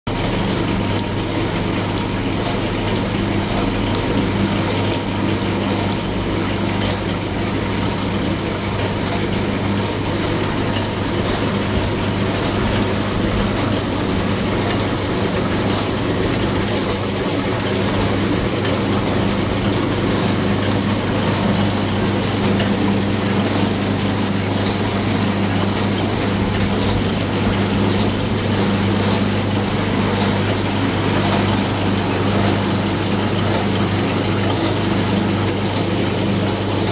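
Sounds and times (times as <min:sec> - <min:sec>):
packing machine humming: 0:00.1 - 0:36.9.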